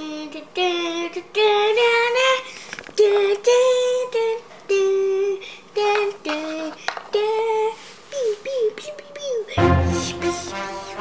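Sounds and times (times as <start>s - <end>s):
child singing wordless tune: 0.0s - 11.0s.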